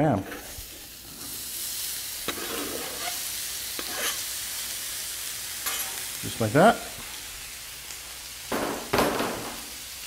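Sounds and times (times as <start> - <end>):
meat sizzling on a griddle: 0.2 - 10.0.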